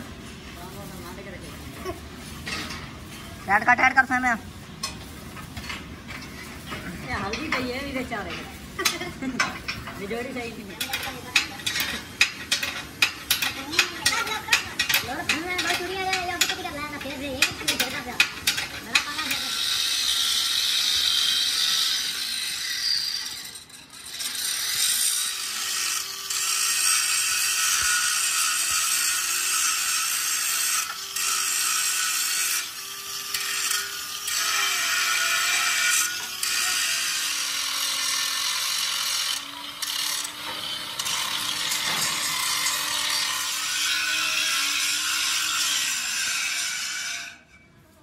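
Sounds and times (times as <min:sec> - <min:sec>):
metalworking tool hissing: 0:00.0 - 0:47.5.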